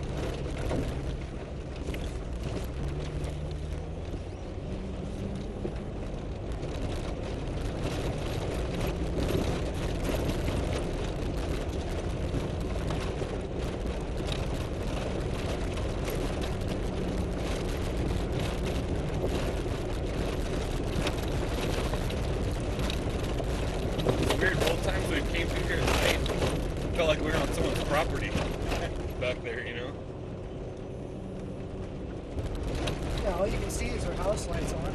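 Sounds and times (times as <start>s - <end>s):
vehicle engine hum: 0.0s - 34.9s.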